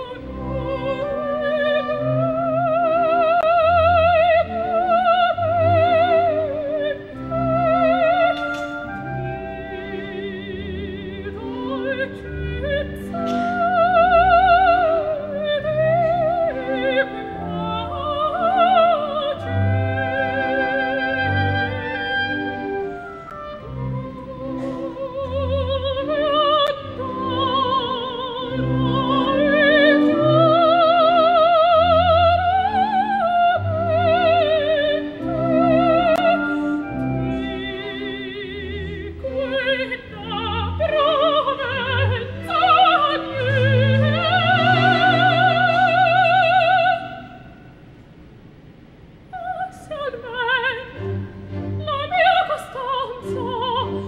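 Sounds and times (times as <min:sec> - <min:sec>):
orchestral accompaniment: 0:00.0 - 0:47.3, 0:50.5 - 0:54.0
operatic soprano singing: 0:00.0 - 0:47.6, 0:49.3 - 0:54.0.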